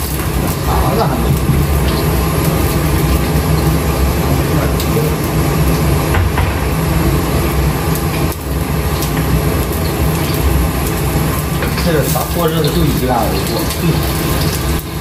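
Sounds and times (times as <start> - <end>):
range hood fan drone: 0.0 - 15.0.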